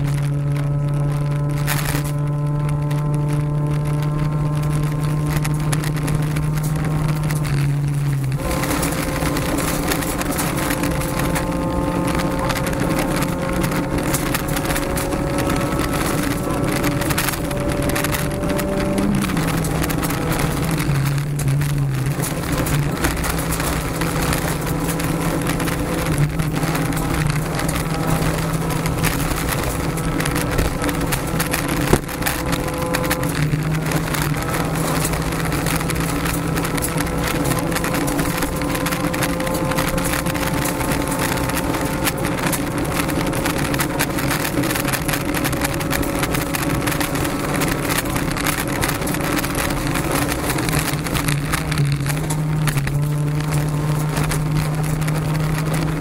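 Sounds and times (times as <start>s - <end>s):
car engine at high revs: 0.0s - 56.0s
gravel and tyre noise: 0.0s - 56.0s.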